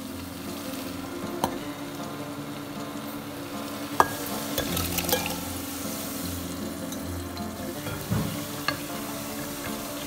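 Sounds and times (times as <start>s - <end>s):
broth simmering with a hiss: 0.0s - 10.0s
soft background music: 0.0s - 10.0s.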